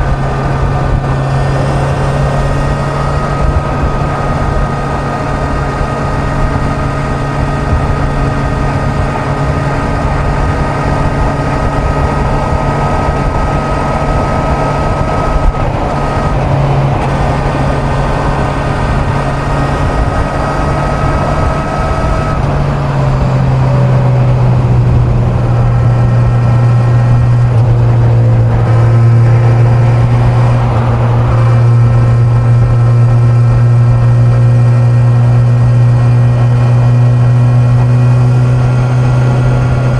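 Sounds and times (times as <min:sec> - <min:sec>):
wind rushing: 0:00.0 - 0:34.7
motorcycle engine running: 0:00.0 - 0:39.9.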